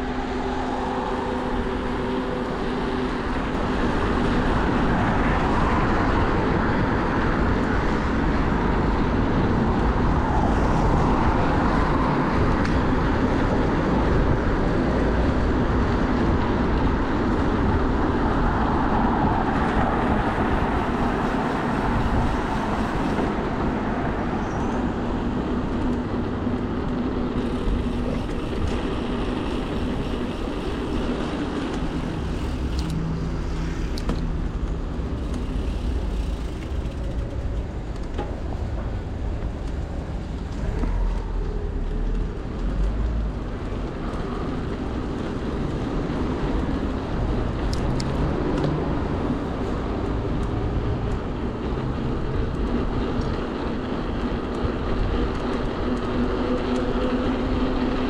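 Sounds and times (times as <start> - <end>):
road traffic: 0.0 - 58.0
wind rush on microphone: 0.0 - 58.0.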